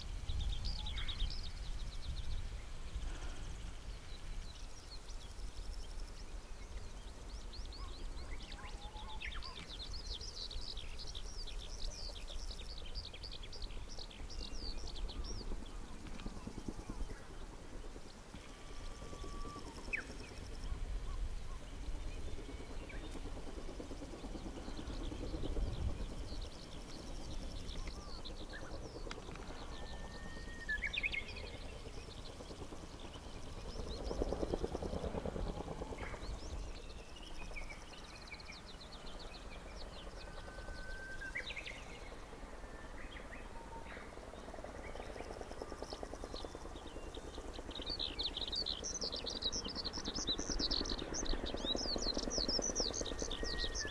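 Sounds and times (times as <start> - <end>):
birds chirping: 0.0 - 53.9
distant helicopter rotors: 0.0 - 53.9.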